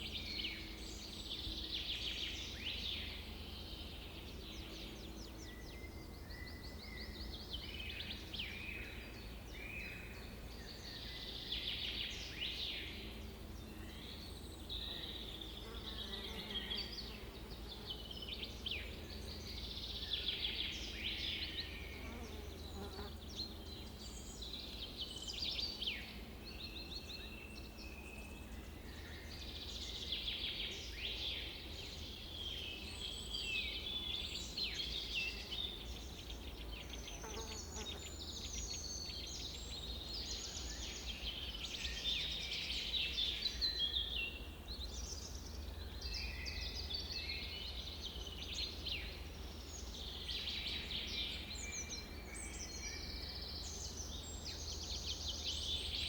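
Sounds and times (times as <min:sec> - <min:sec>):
birds singing and calling: 0:00.0 - 0:56.0.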